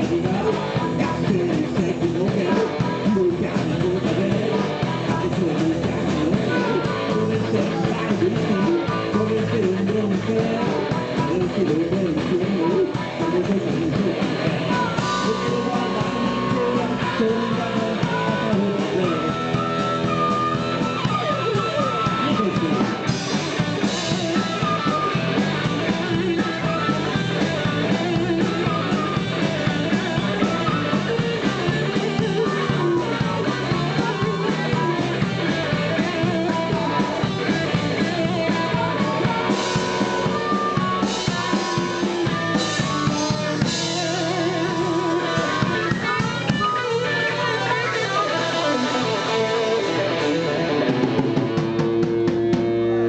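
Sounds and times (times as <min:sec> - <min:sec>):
drum kit beat: 0:00.0 - 0:53.0
guitars: 0:00.0 - 0:53.0.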